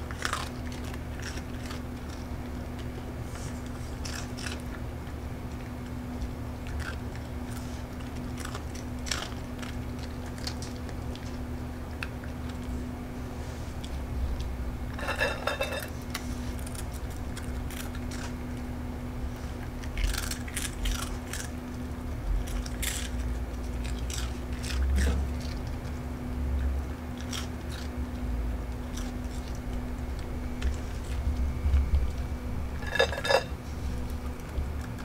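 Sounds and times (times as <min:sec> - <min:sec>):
dog chewing and crunching treats: 0:00.0 - 0:35.0.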